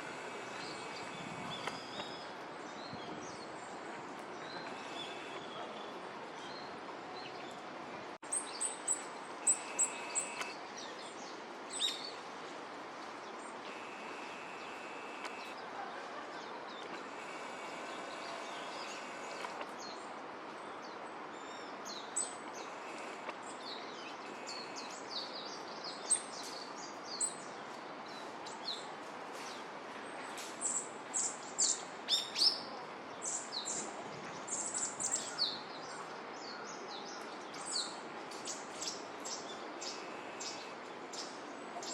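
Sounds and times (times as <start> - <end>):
small songbirds chirping: 0.0 - 12.3, 13.0 - 29.7, 30.4 - 41.9
steady background hiss: 0.0 - 41.9.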